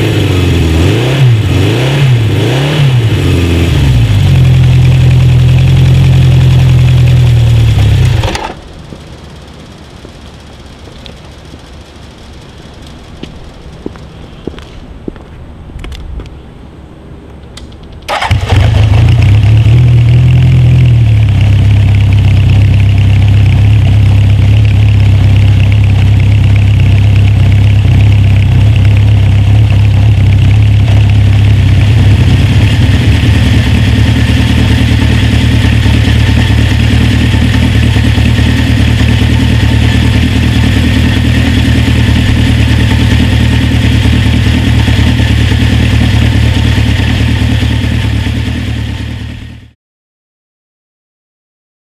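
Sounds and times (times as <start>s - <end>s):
motorcycle engine idling: 0.0s - 15.8s, 17.6s - 49.8s.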